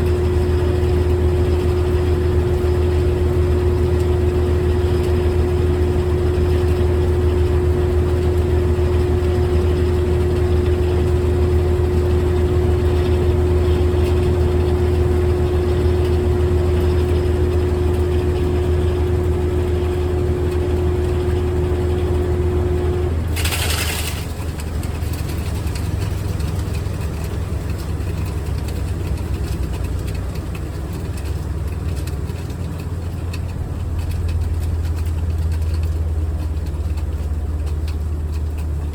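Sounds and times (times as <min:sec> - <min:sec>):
washing machine motor hum: 0:00.0 - 0:38.9
washing machine whine: 0:00.0 - 0:38.9.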